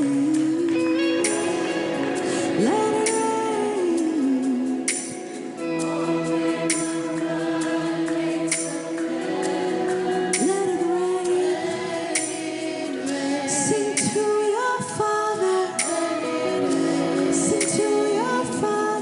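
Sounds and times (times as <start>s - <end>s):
person singing wordless lines: 0.0s - 19.0s
sustained worship music chords: 0.0s - 19.0s.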